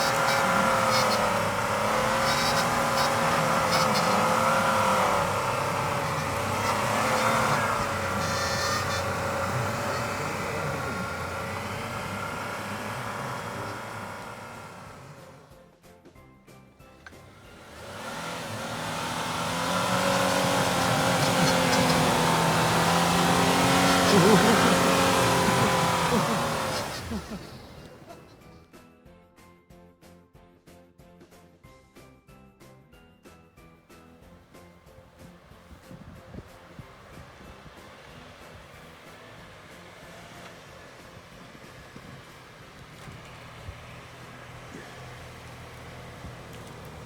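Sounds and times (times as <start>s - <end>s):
vehicle engine running under load: 0.0s - 15.6s, 16.8s - 28.6s, 34.2s - 47.0s.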